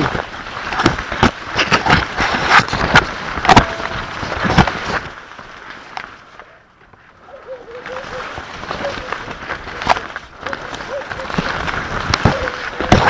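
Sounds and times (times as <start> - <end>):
corn leaves brushing and crackling: 0.0 - 13.0.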